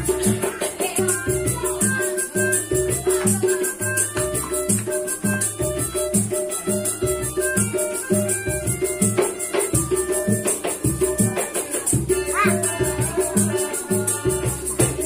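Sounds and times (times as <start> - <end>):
melodica playing: 0.0 - 14.8
shaken percussion jingling: 0.0 - 15.0.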